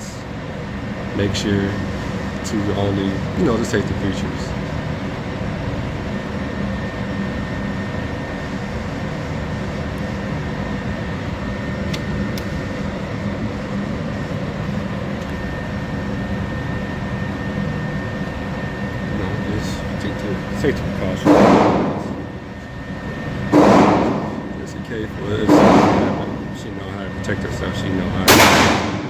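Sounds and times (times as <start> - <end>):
ventilation hum and air rush: 0.0 - 29.0.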